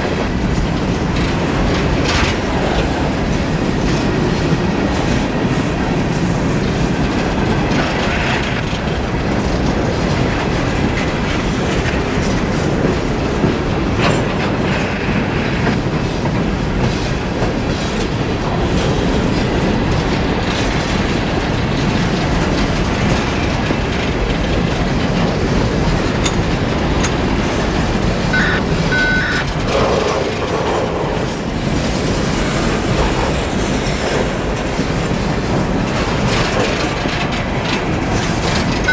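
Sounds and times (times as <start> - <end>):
clickety-clack over rail joints: 0.0 - 38.9
train wheels rumbling on rails: 0.0 - 38.9.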